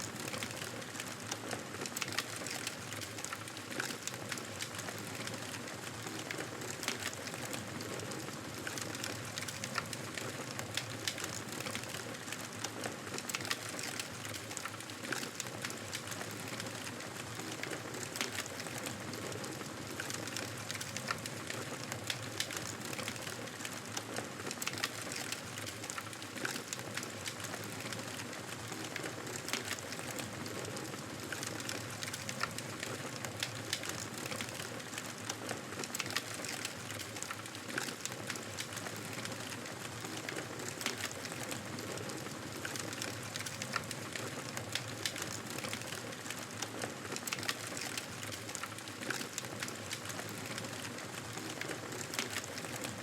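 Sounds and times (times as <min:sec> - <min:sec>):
fire crackles and pops: 0:00.0 - 0:53.0.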